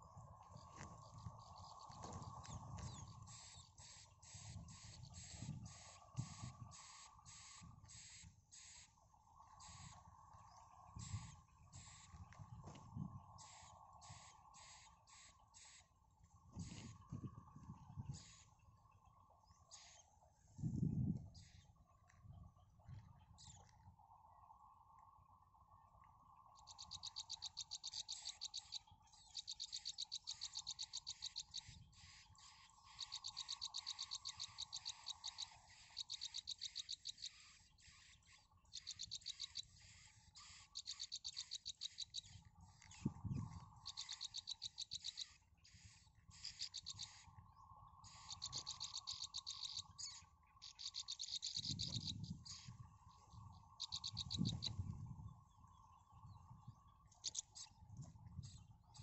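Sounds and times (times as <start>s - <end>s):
nestlings chirping high-pitched: 0.0s - 20.2s, 26.5s - 55.2s, 57.0s - 59.0s
faint low hum: 0.0s - 59.0s.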